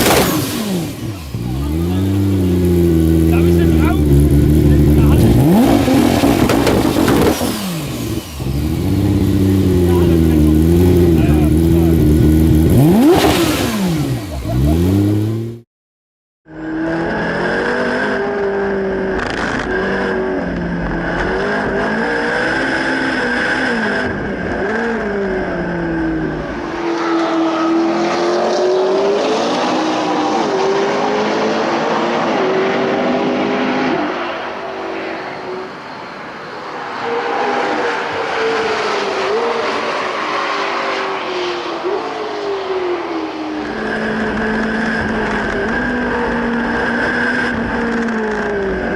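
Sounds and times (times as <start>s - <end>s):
sports car engine at speed: 0.0s - 15.6s, 16.5s - 48.9s.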